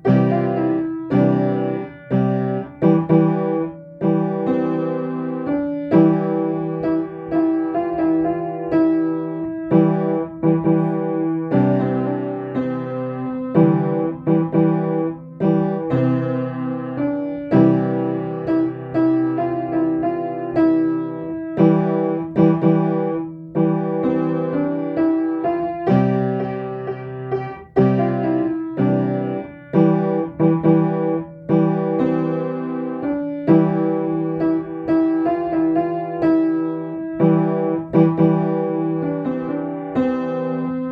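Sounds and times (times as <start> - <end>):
solo piano playing calm piece: 0.0 - 40.9.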